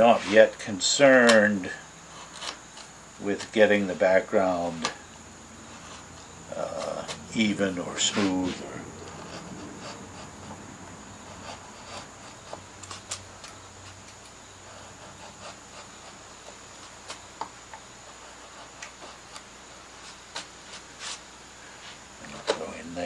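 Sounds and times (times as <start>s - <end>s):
gouge scraping through wood: 0.0s - 0.6s, 2.1s - 5.0s, 5.6s - 22.7s.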